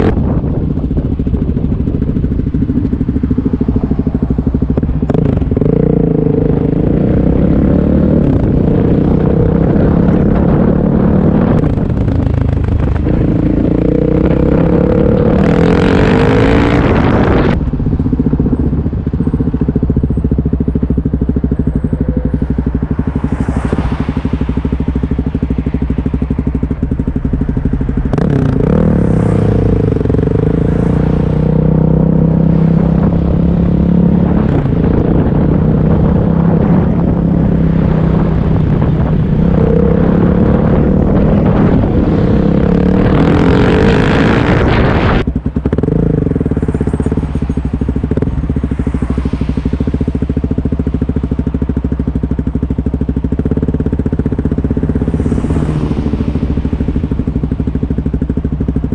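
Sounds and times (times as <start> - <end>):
rush of noise: 0.0 - 52.0
motorcycle engine accelerating: 0.0 - 58.9.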